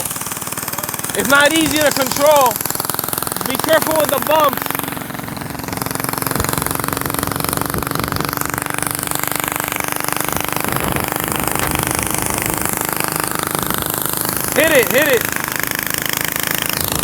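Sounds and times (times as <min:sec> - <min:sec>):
small engine exhaust pulsing: 0:00.0 - 0:17.0.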